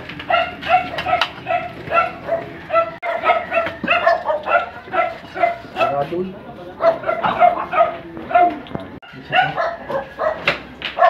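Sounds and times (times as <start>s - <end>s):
small dog yapping: 0.2s - 6.0s, 6.8s - 11.0s.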